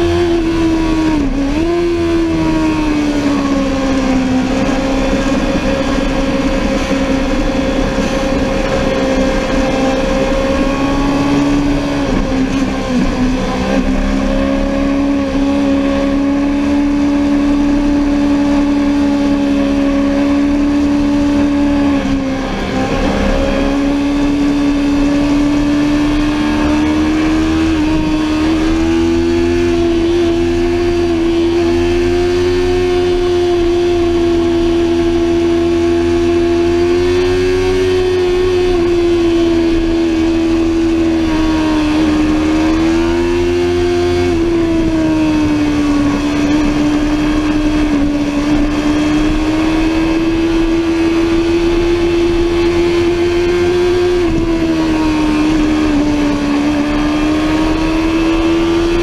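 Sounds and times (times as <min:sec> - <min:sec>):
motorbike engine at high revs: 0:00.0 - 0:59.0
wind noise: 0:00.0 - 0:59.0.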